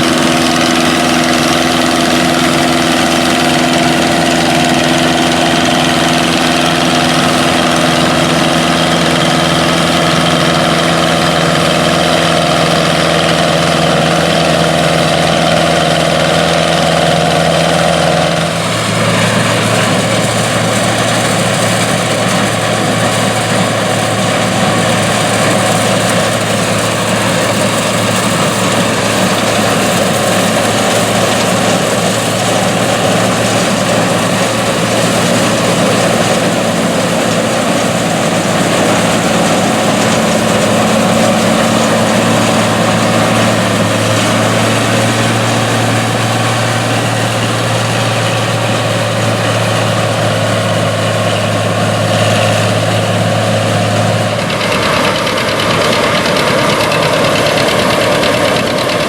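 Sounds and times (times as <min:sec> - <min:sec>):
combine harvester engine drone: 0:00.0 - 0:59.0
machine running steadily: 0:00.0 - 0:59.0.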